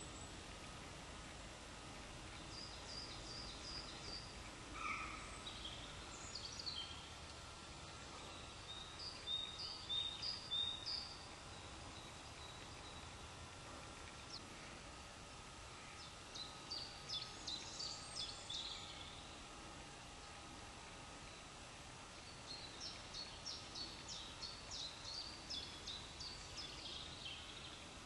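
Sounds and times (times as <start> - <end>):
low background noise: 0.0 - 28.0
songbirds chirping: 0.0 - 28.0.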